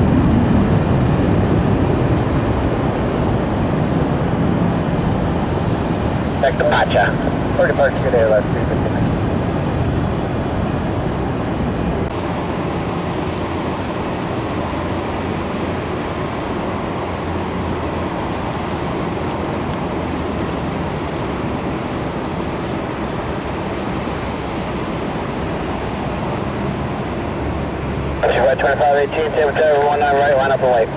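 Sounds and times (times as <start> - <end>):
jet engines rumbling: 0.0 - 30.9.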